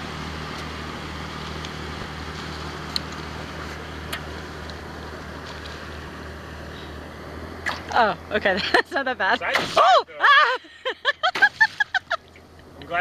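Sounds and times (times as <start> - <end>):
low even hum: 0.0 - 13.0
wind: 0.0 - 13.0.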